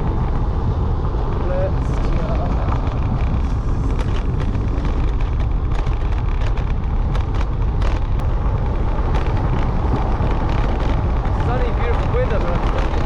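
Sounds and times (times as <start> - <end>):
road noise: 0.0 - 13.0
wind rushing over microphone: 0.0 - 13.0
small clicks and rattles: 1.8 - 13.0.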